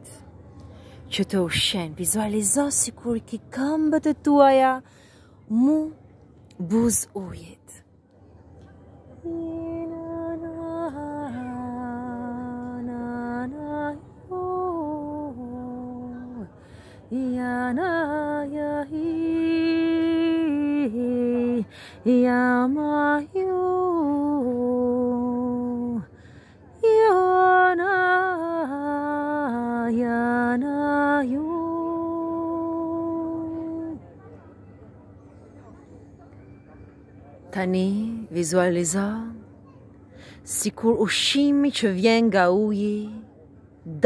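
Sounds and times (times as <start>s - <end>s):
woman singing a slow chant: 0.0s - 7.9s, 8.6s - 34.2s, 35.2s - 44.0s.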